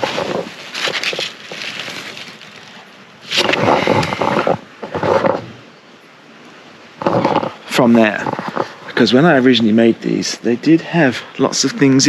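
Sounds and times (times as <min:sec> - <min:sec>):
leaves and stems rustling: 0:00.0 - 0:12.0.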